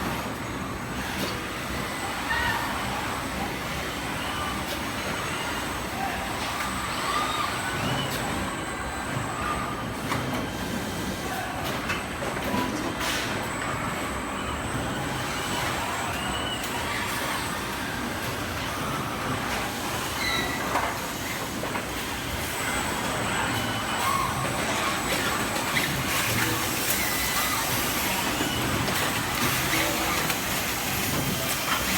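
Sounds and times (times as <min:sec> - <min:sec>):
welding line machinery noise: 0:00.0 - 0:31.9.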